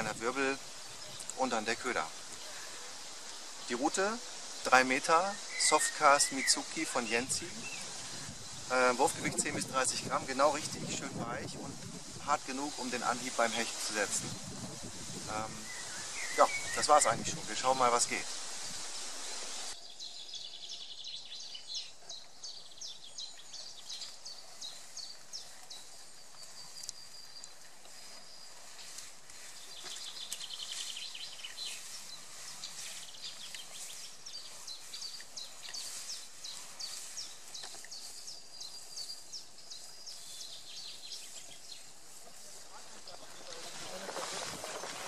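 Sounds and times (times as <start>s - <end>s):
birds chirping and trilling: 0.0s - 45.0s.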